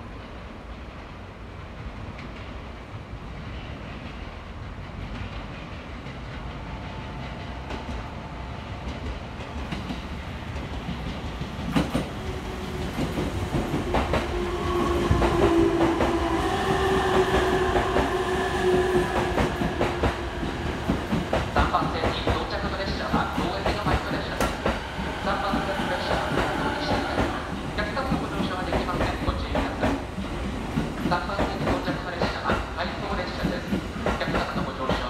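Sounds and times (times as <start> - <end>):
train rumble: 0.0 - 35.0.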